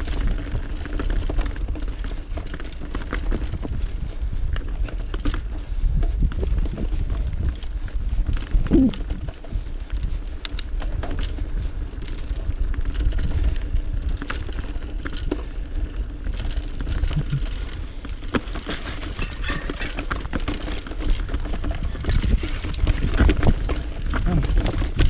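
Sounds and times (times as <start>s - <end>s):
bike rattling over stones: 0.0s - 25.0s
bike tyres rumbling: 0.0s - 25.0s
wind on microphone: 3.2s - 25.0s.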